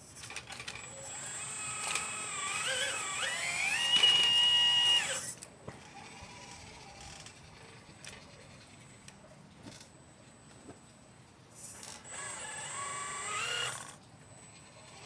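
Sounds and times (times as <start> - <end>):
small electric motor whining: 0.0 - 9.1, 11.6 - 15.0
faint high hum: 0.0 - 15.0.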